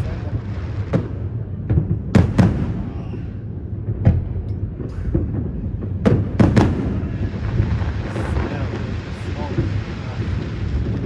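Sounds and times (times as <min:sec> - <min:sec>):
distant explosions rumbling: 0:00.0 - 0:11.0
fireworks bangs: 0:00.0 - 0:11.0.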